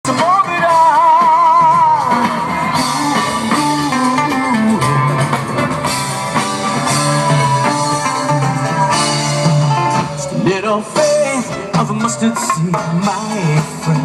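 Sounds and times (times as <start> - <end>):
bass guitar: 0.0 - 14.0
drum kit: 0.0 - 14.0
electric guitar: 0.1 - 14.0.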